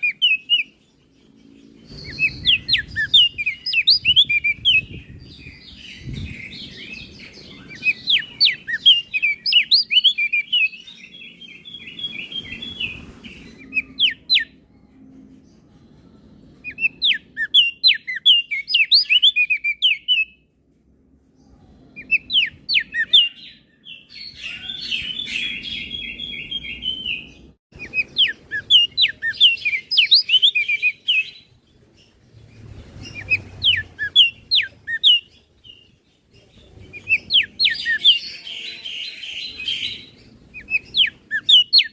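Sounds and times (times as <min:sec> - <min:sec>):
bird high chirping: 0:00.0 - 0:20.5, 0:21.4 - 0:41.9.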